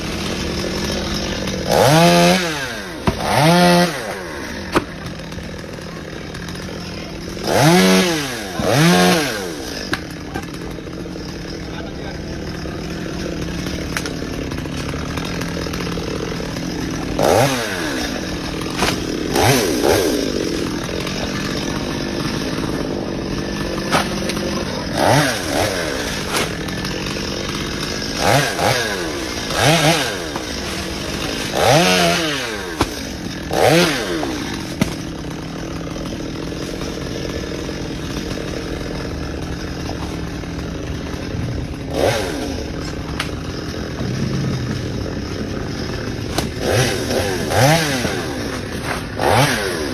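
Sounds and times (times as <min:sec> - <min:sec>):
chainsaw engine idling and revving: 0:00.0 - 0:49.9.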